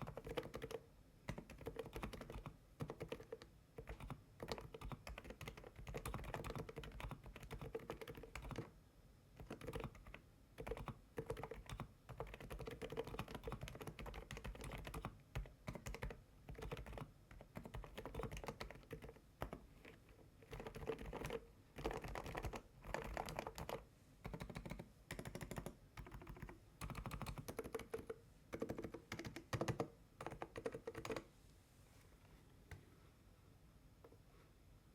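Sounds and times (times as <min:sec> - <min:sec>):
typing on a mechanical keyboard: 0:00.0 - 0:08.7, 0:09.4 - 0:31.3.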